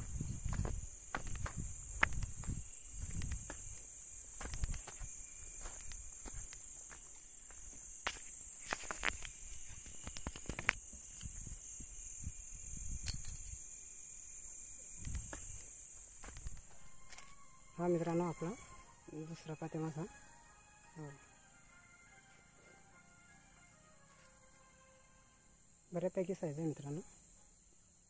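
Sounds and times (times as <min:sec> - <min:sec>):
night insects chirring: 0:00.0 - 0:28.0.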